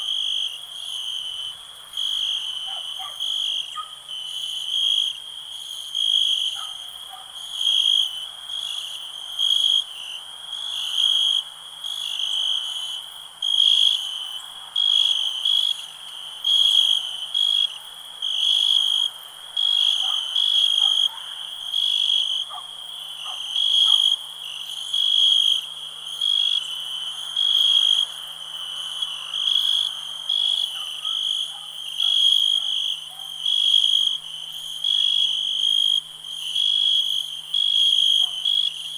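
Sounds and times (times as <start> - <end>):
crickets chirping: 0.0 - 38.9
fainter lower insect calls: 0.0 - 38.9.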